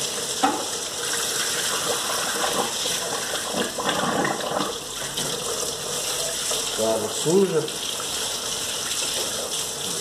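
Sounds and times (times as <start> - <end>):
garden hose water splashing: 0.0 - 10.0.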